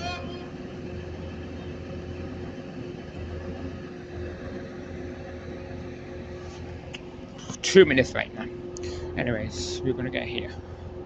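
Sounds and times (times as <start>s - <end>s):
diesel train idling: 0.0s - 11.0s.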